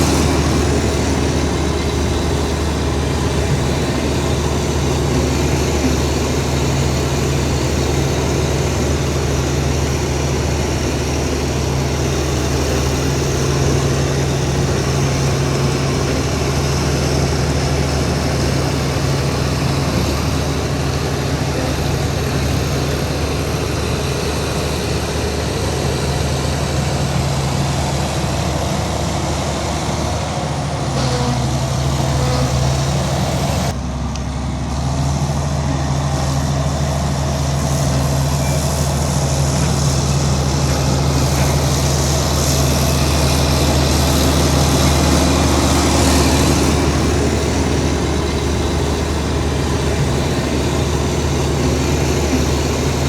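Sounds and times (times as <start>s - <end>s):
heavy diesel machinery engine drone: 0.0s - 53.0s.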